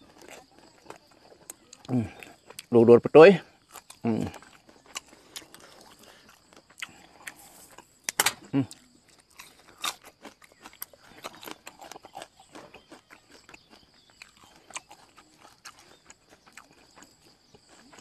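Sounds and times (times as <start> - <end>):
person chewing food: 0.0 - 2.7, 3.5 - 18.0.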